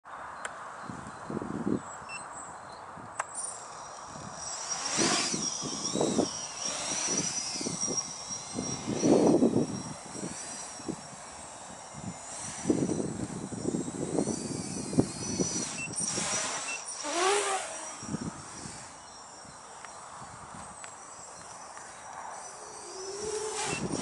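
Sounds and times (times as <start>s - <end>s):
model car motor whine: 3.4s - 24.0s.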